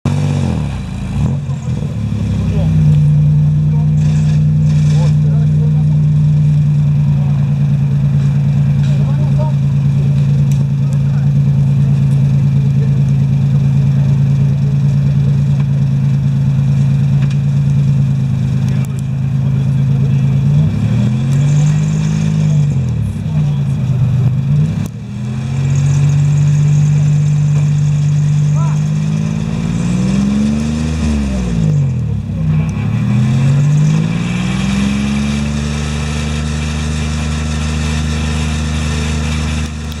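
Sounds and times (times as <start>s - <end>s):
off-road vehicle engine idling: 0.1s - 40.0s.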